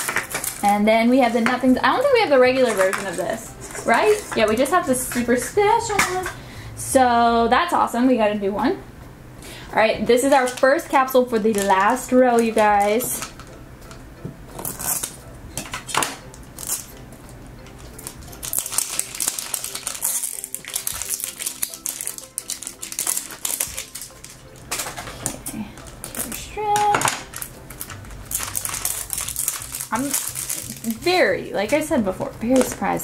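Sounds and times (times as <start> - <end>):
plastic wrapping crinkling: 0.0 - 6.4, 10.2 - 13.6, 14.5 - 33.0.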